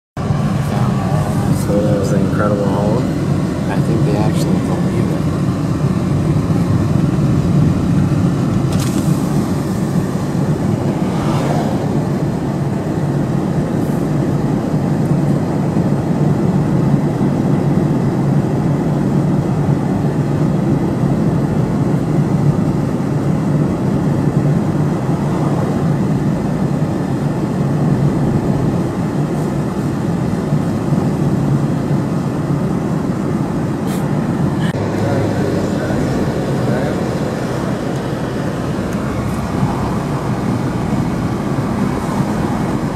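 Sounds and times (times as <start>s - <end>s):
road and engine noise in car: 0.2s - 42.9s.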